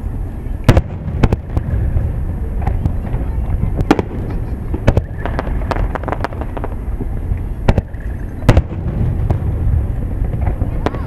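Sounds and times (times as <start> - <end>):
low rumble: 0.0 - 11.0
firework shells bursting: 0.6 - 11.0.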